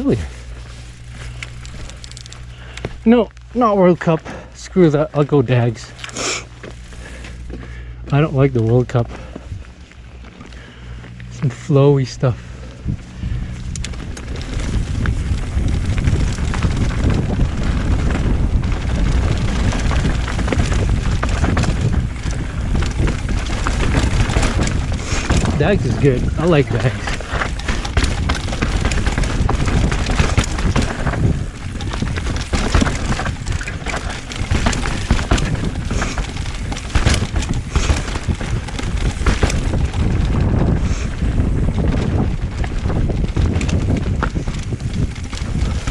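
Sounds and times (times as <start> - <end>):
bike rattling and knocking: 0.0 - 45.9
tyres rumbling on dirt: 0.0 - 45.9
wind buffeting microphone: 3.8 - 45.9.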